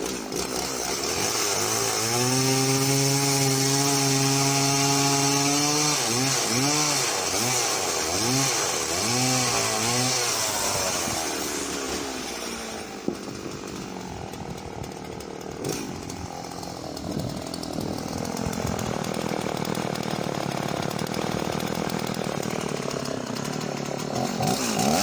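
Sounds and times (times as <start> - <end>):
chainsaw running: 0.0 - 25.0.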